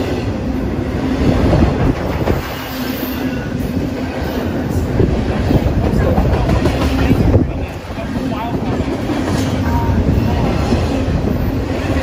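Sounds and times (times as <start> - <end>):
freight train wheels rumbling: 0.0 - 12.0
train knocks and clatter: 0.0 - 12.0.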